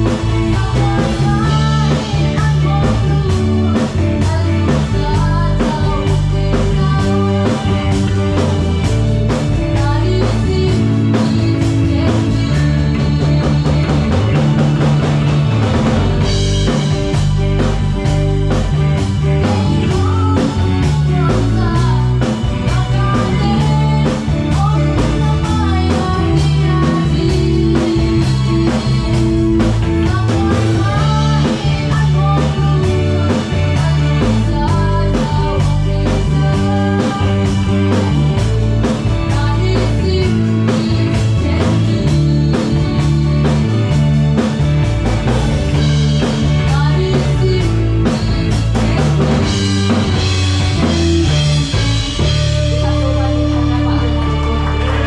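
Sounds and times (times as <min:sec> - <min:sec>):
drum kit groove: 0:00.0 - 0:55.0
electric bass: 0:00.0 - 0:55.0.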